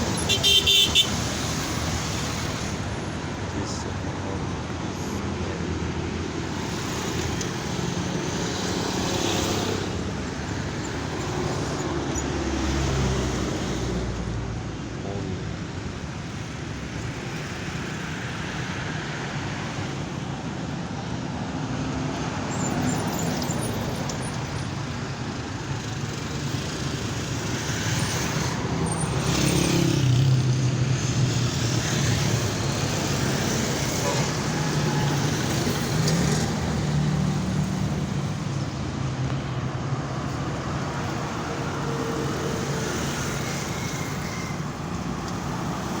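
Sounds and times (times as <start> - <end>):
traffic rumble: 0.0 - 46.0.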